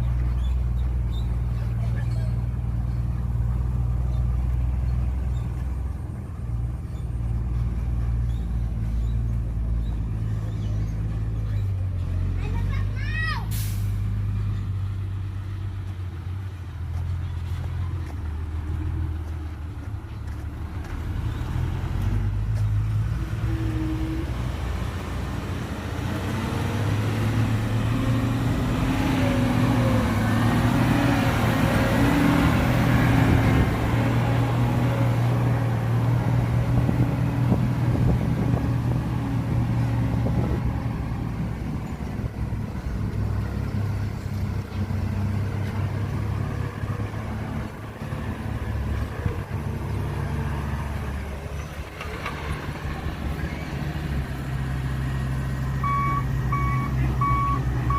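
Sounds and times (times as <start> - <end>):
heavy diesel machinery running: 0.0 - 57.9.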